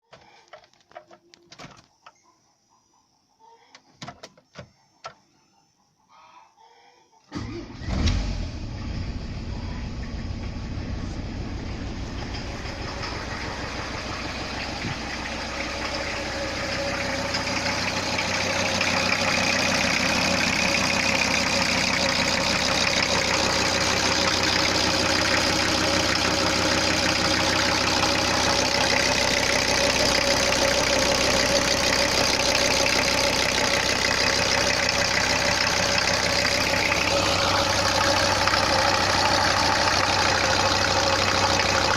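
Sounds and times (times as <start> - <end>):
diesel engine idling with knock: 8.1 - 41.9.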